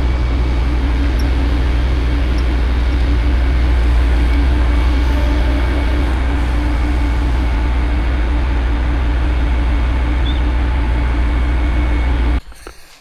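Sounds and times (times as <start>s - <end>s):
engine drone with deep hum: 0.0s - 12.4s.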